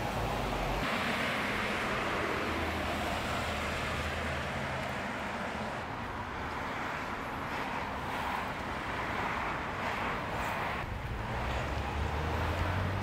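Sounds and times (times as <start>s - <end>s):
road traffic rush: 0.0s - 13.0s.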